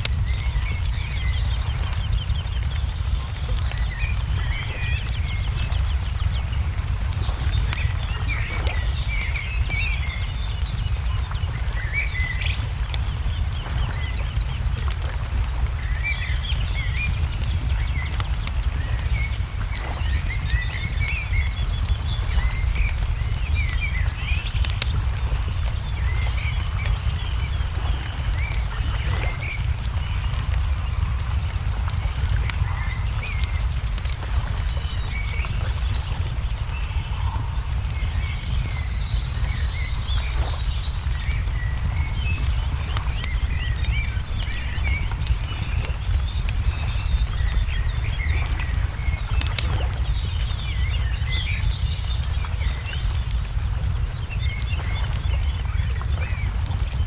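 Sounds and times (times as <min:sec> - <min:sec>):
small birds chirping: 0:00.0 - 0:57.0
wood fire crackling: 0:00.0 - 0:57.0.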